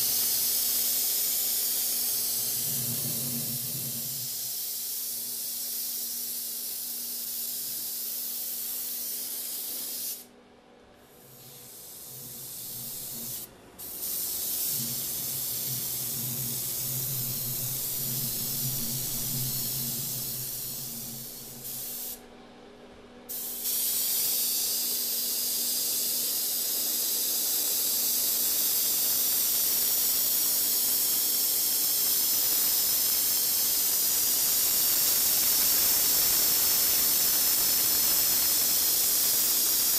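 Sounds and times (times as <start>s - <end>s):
airbrush hissing: 0.0s - 10.3s, 11.2s - 22.2s, 23.3s - 39.9s.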